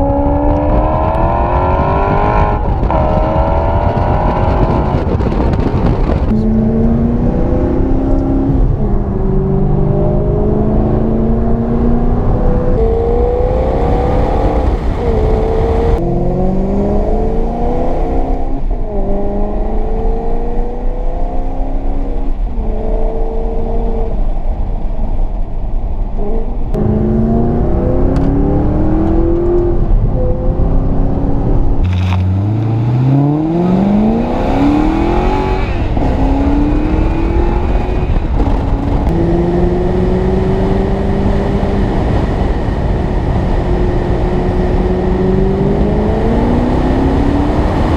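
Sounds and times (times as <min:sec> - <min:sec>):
car engine accelerating through gears: 0:00.0 - 0:24.5, 0:26.1 - 0:47.9.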